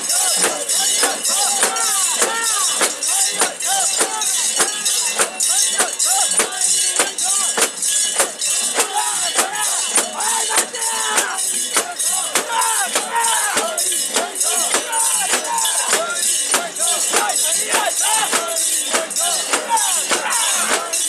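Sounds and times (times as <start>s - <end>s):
crowd chanting together: 0.0s - 21.0s.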